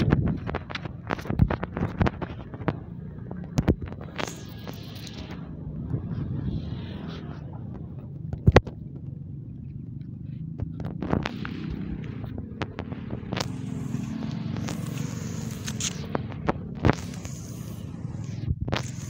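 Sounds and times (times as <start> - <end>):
low rumble of vehicles: 0.0 - 19.0.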